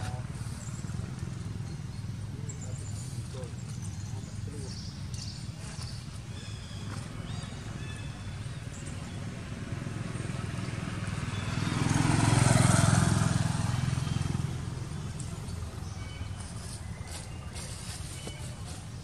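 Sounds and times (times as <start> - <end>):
motor vehicle driving past: 0.0 - 4.1, 6.6 - 17.9.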